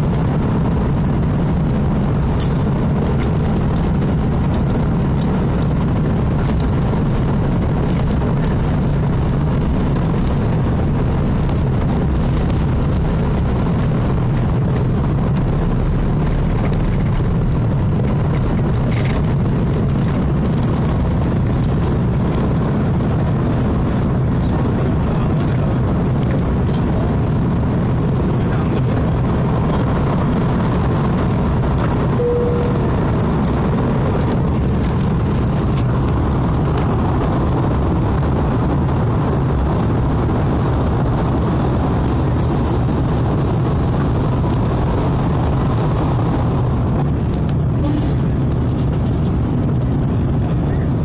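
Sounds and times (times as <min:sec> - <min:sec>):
jet engine rumble in cabin: 0:00.0 - 0:51.0
rushing airflow: 0:00.0 - 0:51.0.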